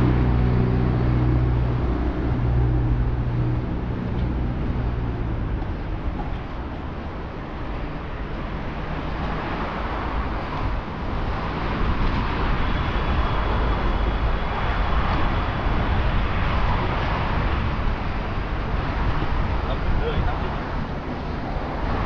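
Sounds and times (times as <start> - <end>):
city traffic: 0.0 - 22.0.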